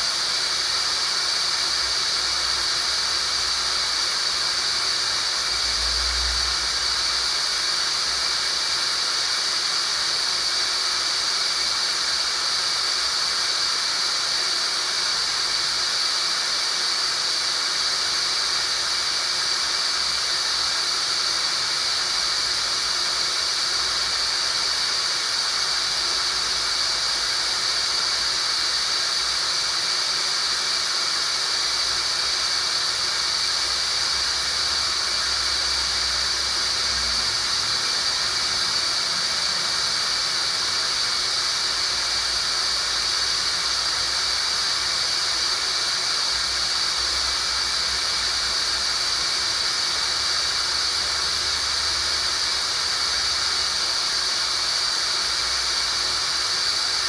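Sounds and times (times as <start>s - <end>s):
steady high-pitched hiss: 0.0s - 57.0s.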